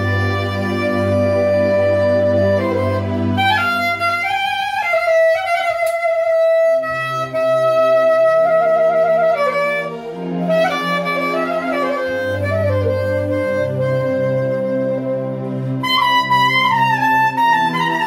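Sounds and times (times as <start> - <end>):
backing accompaniment with bass line: 0.0 - 18.0
clarinet melody: 0.0 - 18.0.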